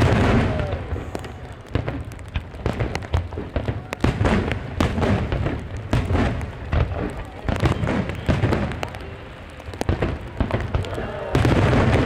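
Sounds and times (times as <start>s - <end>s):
fireworks bangs and crackles: 0.0s - 12.0s
low booms of fireworks: 0.0s - 12.0s.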